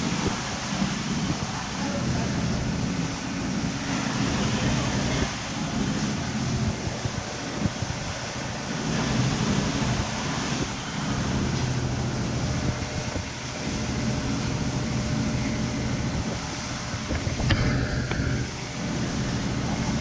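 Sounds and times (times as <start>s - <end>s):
motor droning: 0.0s - 20.0s
wind noise on microphone: 0.0s - 20.0s.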